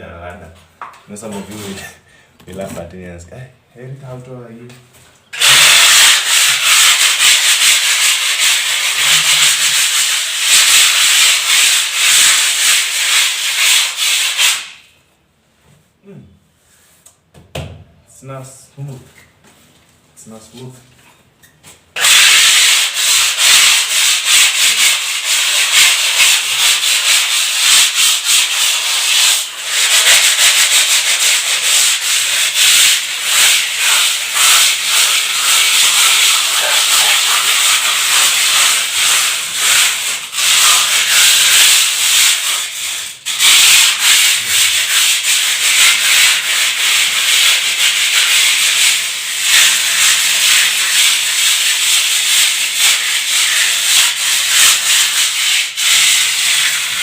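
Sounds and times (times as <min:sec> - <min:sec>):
hand scrubbing rough wall: 0:01.2 - 0:02.9, 0:05.3 - 0:14.8, 0:22.0 - 0:57.0.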